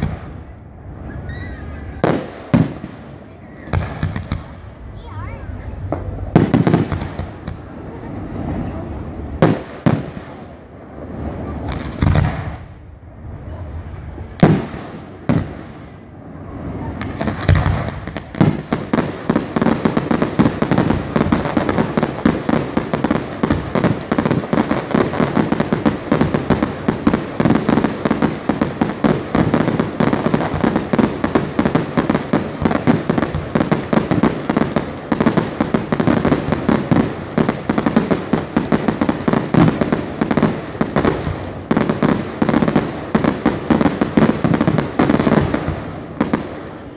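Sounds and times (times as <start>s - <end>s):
barrage of firework cracks: 0.0s - 12.8s, 14.2s - 46.9s.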